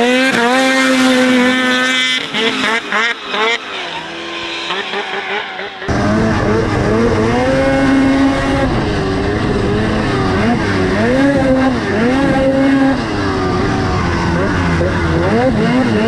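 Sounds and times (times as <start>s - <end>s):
snowmobile engine at full throttle: 0.0s - 16.0s
rush of noise: 2.2s - 15.6s.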